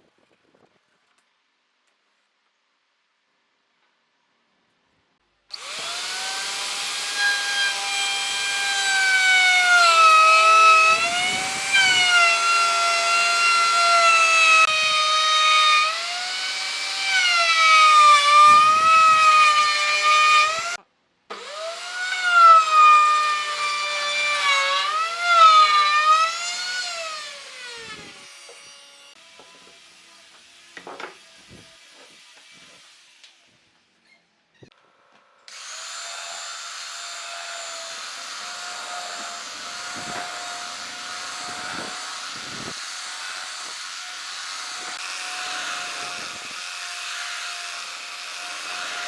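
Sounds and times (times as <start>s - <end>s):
power tool motor whining: 5.5s - 33.3s, 35.5s - 49.0s.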